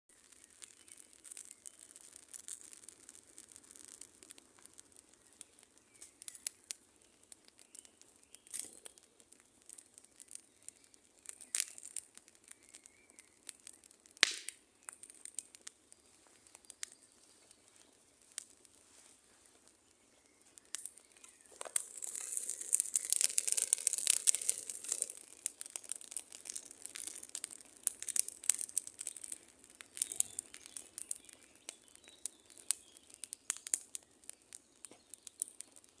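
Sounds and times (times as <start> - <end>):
campfire crackling: 0.1 - 36.0
sharp pops from burning wood: 0.1 - 36.0.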